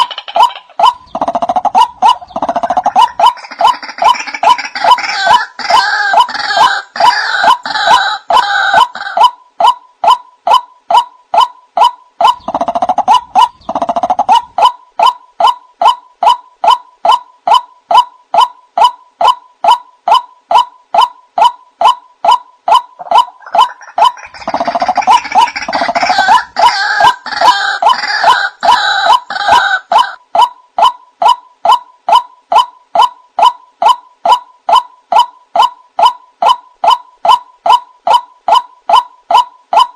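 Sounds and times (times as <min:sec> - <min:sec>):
bird calling sharp notes: 0:00.0 - 0:39.9
harsh bird croaking: 0:00.0 - 0:39.9.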